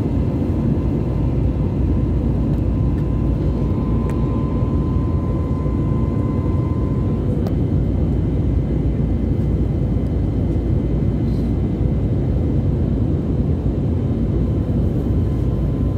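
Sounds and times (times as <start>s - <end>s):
jet engine cabin rumble: 0.0s - 15.9s.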